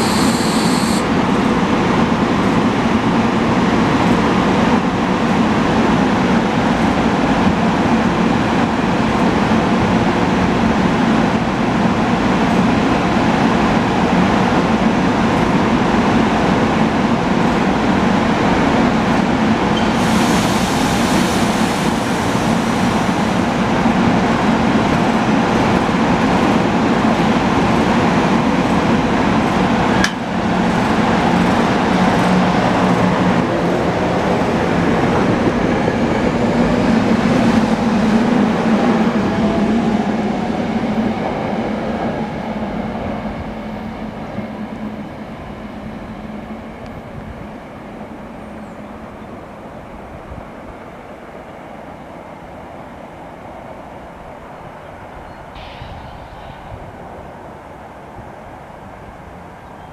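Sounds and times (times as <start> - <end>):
rising train whine: 0.0 - 59.9
train rumbling past: 0.0 - 59.9.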